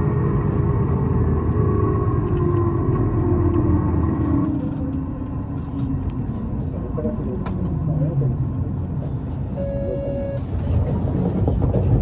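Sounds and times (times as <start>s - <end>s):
bus interior rumble: 0.0s - 12.0s.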